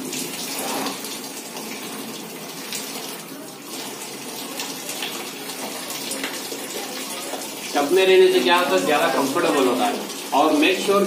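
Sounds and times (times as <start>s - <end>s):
tap water running into tub: 0.0s - 11.0s.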